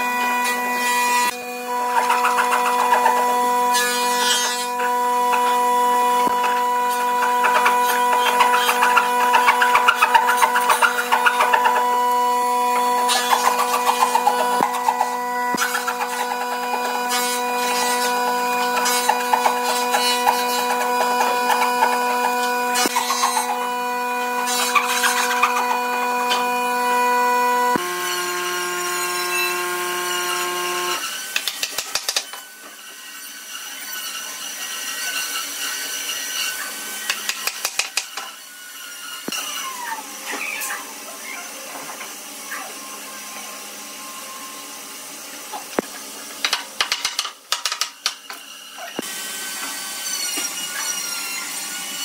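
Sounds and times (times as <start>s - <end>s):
hand saw cutting wood: 0.0s - 43.2s, 45.5s - 52.0s.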